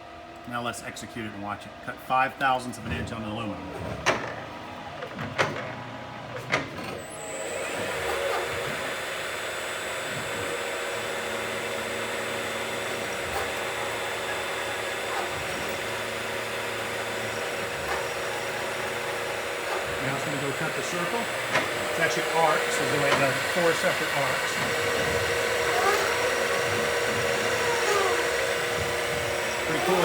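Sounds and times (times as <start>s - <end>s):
milling machine spindle whine: 3.4s - 30.0s.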